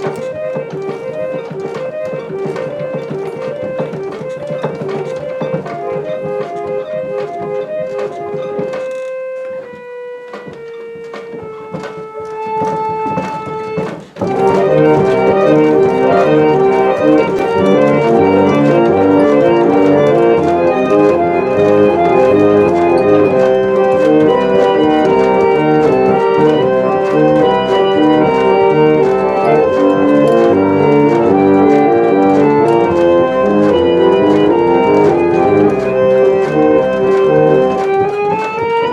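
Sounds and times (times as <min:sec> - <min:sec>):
pump organ playing chords: 0:00.0 - 0:38.9.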